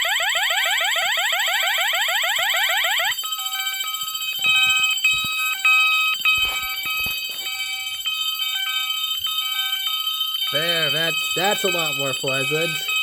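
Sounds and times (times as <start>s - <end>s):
electronic fire alarm horn: 0.0s - 13.0s.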